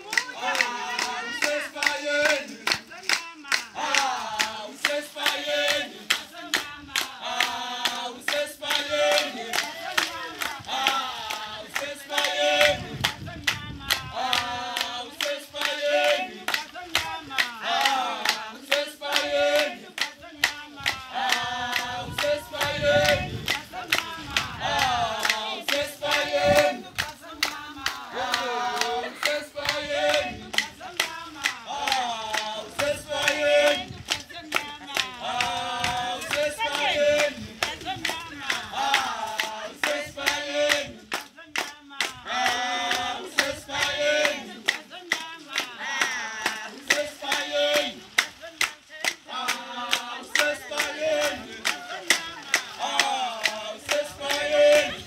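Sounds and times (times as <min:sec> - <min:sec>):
group singing: 0:00.0 - 0:55.0
rhythmic hand clapping: 0:00.0 - 0:55.0.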